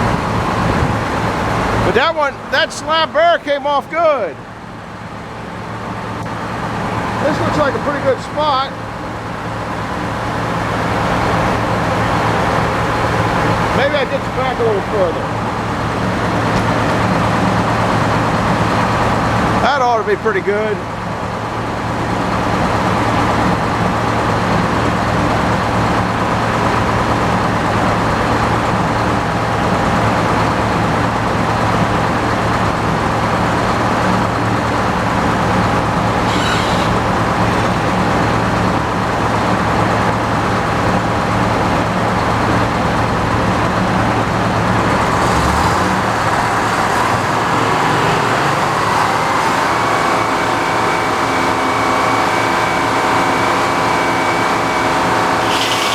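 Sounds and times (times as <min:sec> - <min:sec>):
tractor engine under load: 0:04.8 - 0:55.9.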